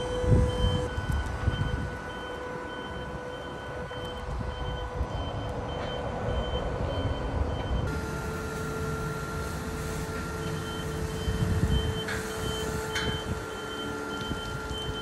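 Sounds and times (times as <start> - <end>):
machinery humming: 0.0 - 15.0
short high warning beeps: 0.0 - 15.0.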